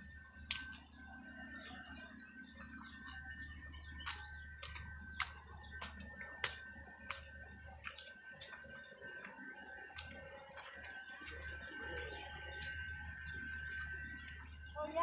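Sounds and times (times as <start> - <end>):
footsteps on wet paving: 0.0 - 15.0.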